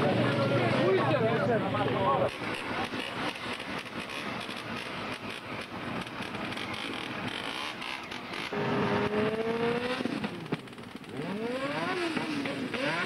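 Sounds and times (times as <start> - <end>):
motorbike engine revving: 2.2 - 13.0.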